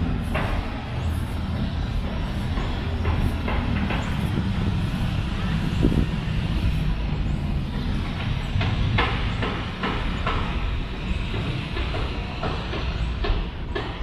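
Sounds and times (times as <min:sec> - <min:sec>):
regular track clicks: 0:00.0 - 0:14.0
train low rumble: 0:00.0 - 0:14.0.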